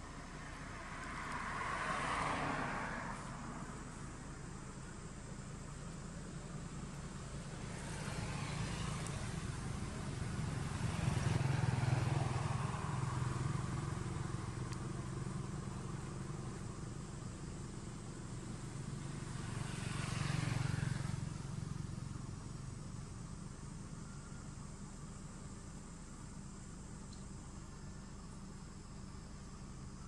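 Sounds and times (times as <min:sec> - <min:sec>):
passing vehicle engines rumbling: 0:00.0 - 0:30.0.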